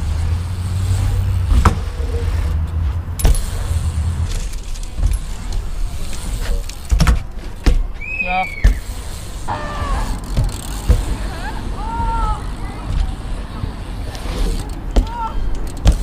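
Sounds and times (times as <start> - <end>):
bike rolling on hard ground: 0.0 - 16.0.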